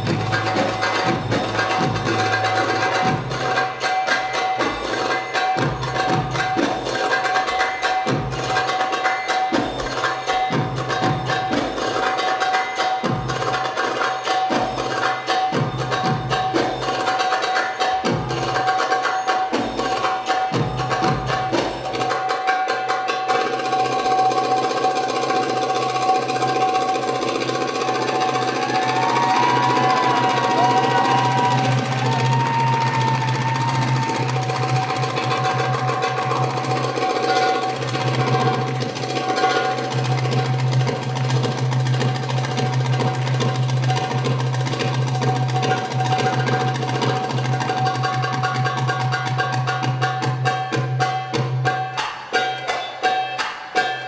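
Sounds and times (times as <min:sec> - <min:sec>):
goblet drum rhythms: 0:00.0 - 0:54.0.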